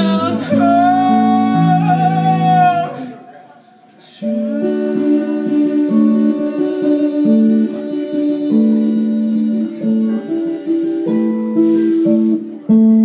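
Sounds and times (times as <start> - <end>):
electric guitar melody: 0.0 - 3.2, 4.2 - 13.0.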